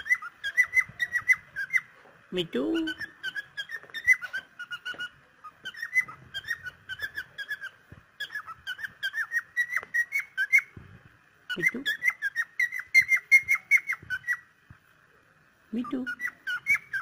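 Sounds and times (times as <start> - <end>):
cockatiel whistling: 0.0 - 1.9, 2.8 - 10.8, 11.5 - 14.5, 16.0 - 17.0.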